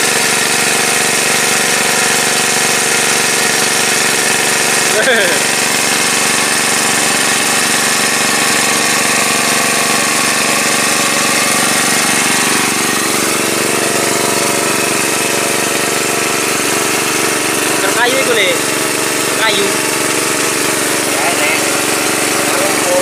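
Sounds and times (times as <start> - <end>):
small engine running steadily: 0.0 - 23.0.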